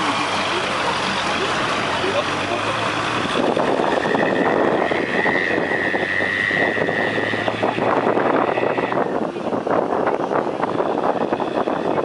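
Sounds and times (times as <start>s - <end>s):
bus engine hum: 0.0s - 12.0s
road and wind noise: 0.0s - 12.0s.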